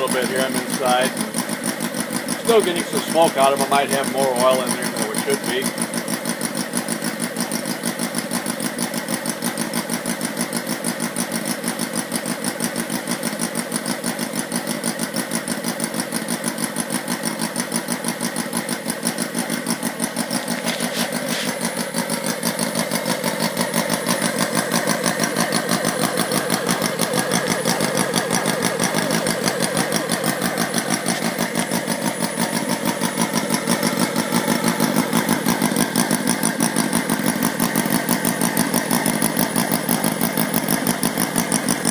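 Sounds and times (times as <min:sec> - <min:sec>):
model engine running: 0:00.0 - 0:41.9.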